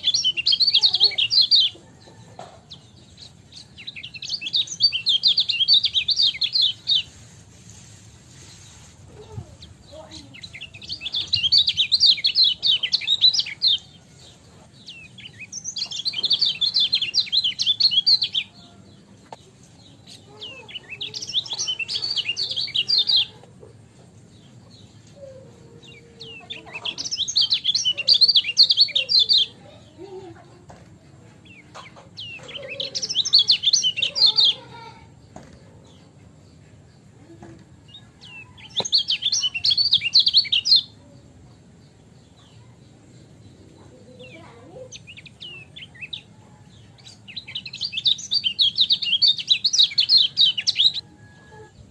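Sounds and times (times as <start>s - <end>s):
bird twittering chirps: 0.0s - 2.2s, 3.0s - 7.2s, 8.5s - 18.8s, 19.4s - 23.4s, 24.3s - 29.9s, 31.4s - 35.0s, 37.8s - 51.9s.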